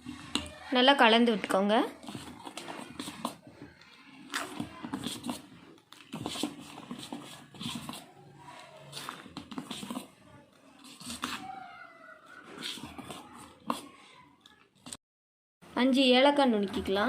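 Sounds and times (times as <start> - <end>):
spoon scraping dry flour: 0.0 - 15.0.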